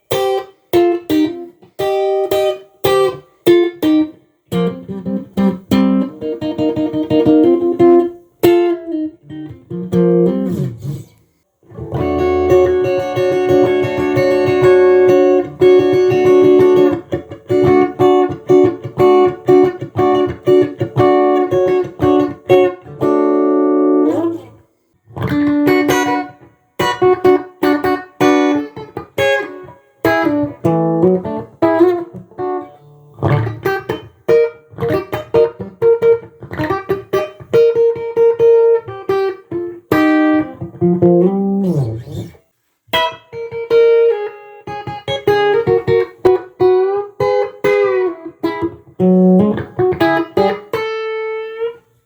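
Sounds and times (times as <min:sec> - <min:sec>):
electric guitar playing: 0:00.0 - 0:52.0.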